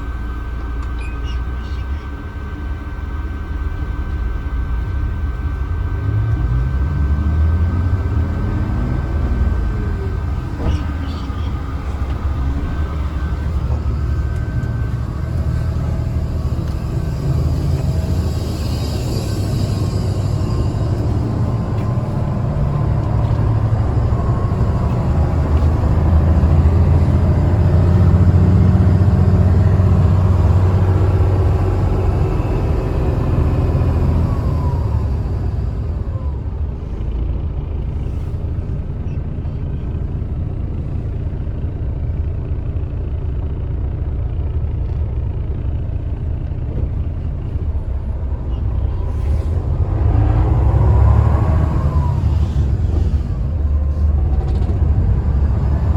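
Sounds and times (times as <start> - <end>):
bus engine droning: 0.0 - 55.9.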